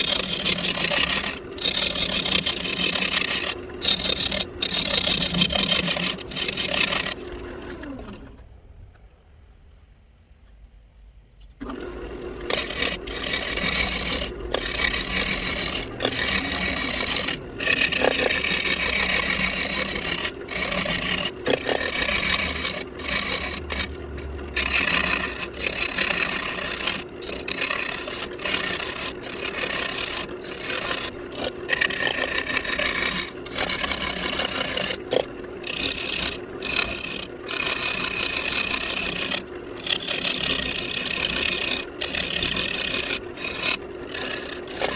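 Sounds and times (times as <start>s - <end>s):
wood lathe scraping: 0.0s - 8.3s, 11.6s - 44.9s.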